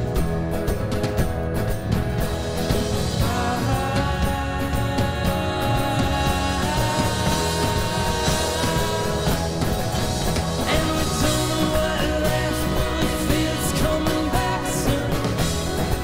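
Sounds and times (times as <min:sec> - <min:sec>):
drums: 0:00.0 - 0:16.0
upright bass: 0:00.0 - 0:16.0
man singing: 0:03.1 - 0:16.0.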